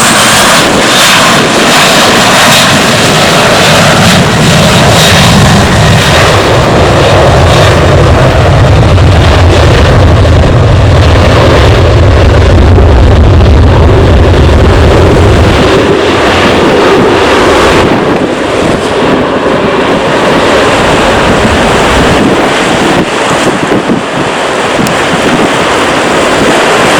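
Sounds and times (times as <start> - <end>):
jet engines roaring: 0.0 - 26.9
wind buffeting microphone: 0.0 - 26.9.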